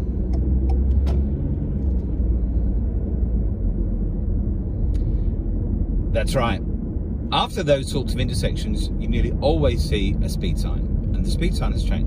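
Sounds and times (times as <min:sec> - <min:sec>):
engine and tyre rumble in car: 0:00.0 - 0:12.0.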